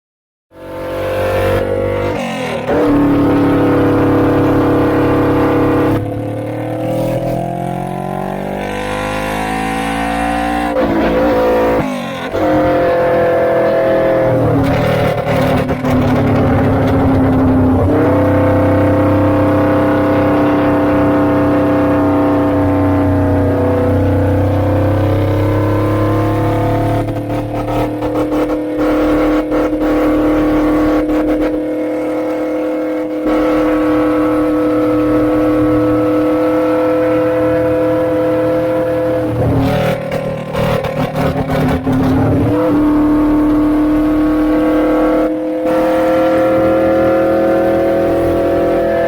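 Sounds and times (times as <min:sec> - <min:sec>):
motorcycle engine running: 0:01.5 - 0:08.4, 0:10.7 - 0:48.9.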